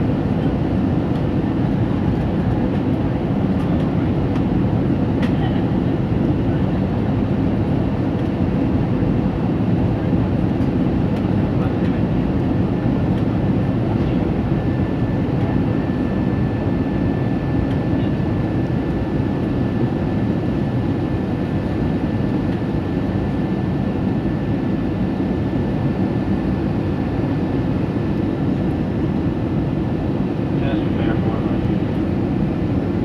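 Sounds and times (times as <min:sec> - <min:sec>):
aircraft engine roar: 0:00.0 - 0:33.0.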